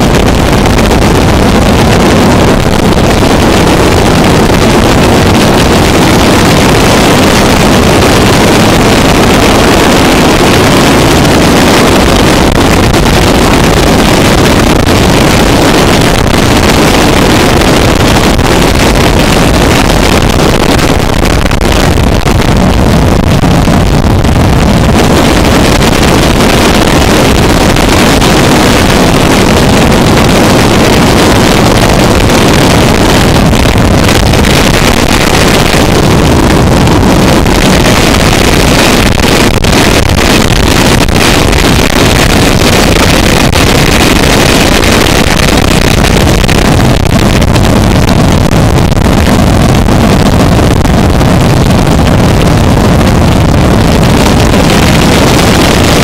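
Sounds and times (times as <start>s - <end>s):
harsh distorted noise music: 0.0s - 56.0s.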